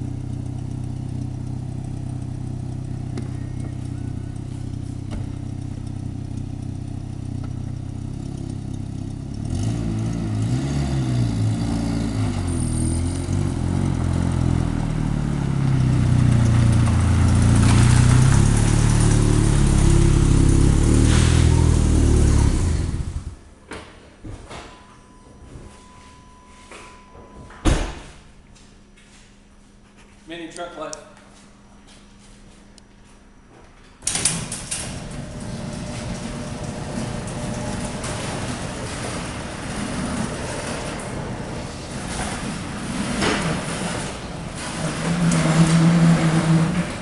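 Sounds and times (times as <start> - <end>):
vehicle engine idling and driving: 0.0 - 23.8, 31.6 - 47.0.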